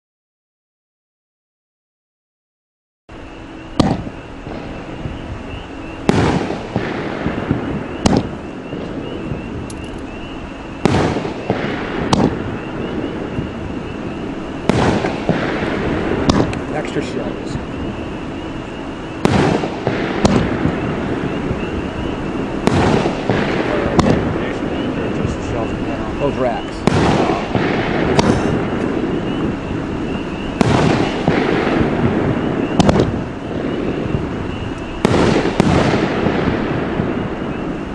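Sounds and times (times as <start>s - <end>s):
noisy hiss: 3.1s - 37.9s
firework bangs with echo: 3.7s - 37.9s.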